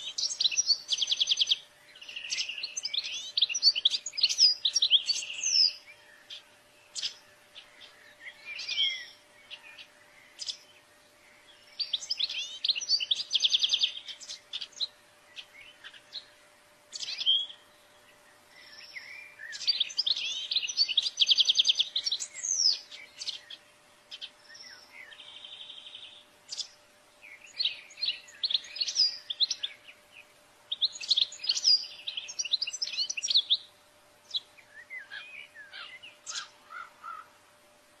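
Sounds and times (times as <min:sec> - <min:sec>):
goldfinch twittering song: 0:00.0 - 0:37.2
faint steady hum: 0:00.0 - 0:38.0.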